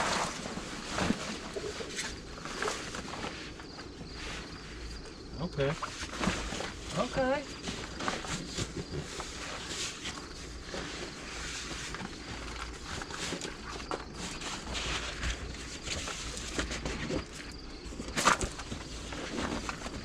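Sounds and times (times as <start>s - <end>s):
rustling and handling noises: 0.0s - 20.0s.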